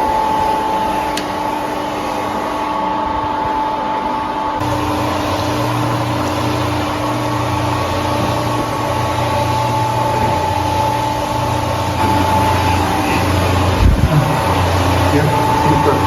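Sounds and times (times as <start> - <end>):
milling machine hum and whine: 0.0 - 16.0.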